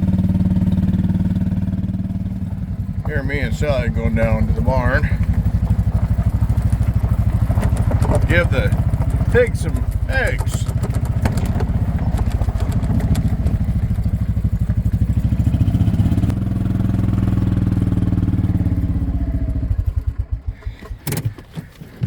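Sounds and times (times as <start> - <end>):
golf cart engine chugging: 0.0 - 22.0.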